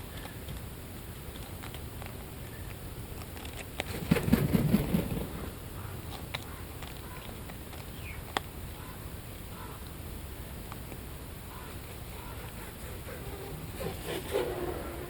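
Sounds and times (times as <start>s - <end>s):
birds pecking at biscuits: 0.0s - 15.0s.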